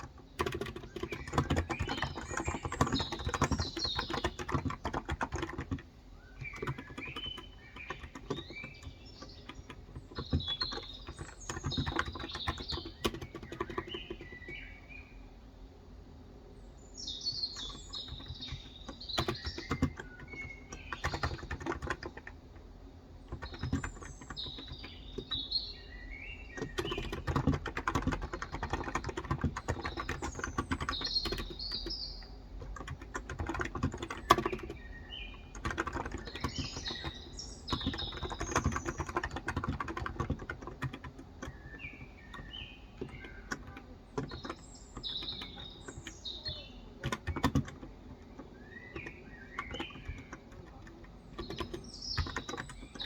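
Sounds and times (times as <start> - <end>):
soft keyboard keystrokes: 0.0 - 14.7, 17.5 - 25.6, 26.2 - 53.0
birds chirping: 0.0 - 53.0.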